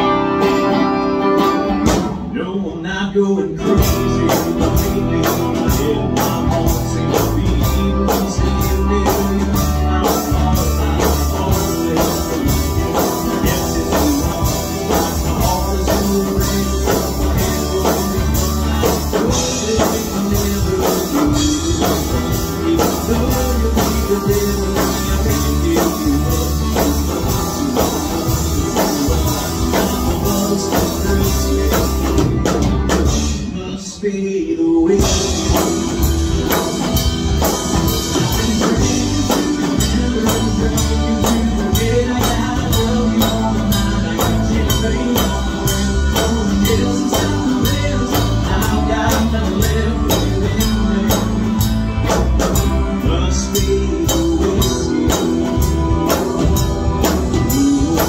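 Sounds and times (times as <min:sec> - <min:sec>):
bass guitar: 0:00.0 - 0:58.0
drums: 0:00.0 - 0:58.0
electric guitar: 0:00.0 - 0:58.0.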